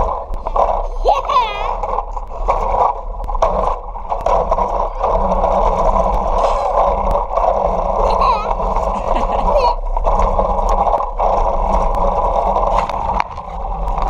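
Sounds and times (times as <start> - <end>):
wheels rolling on asphalt: 0.0 - 14.0.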